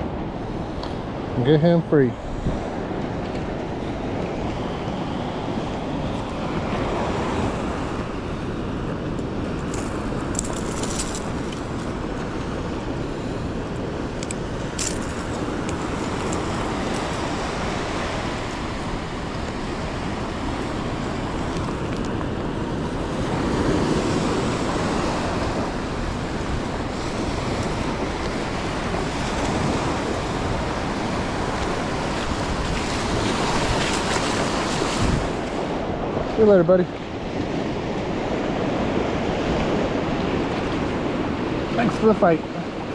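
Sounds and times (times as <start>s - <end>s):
ocean waves washing onto beach: 0.0s - 42.9s
wind on microphone: 0.0s - 42.9s.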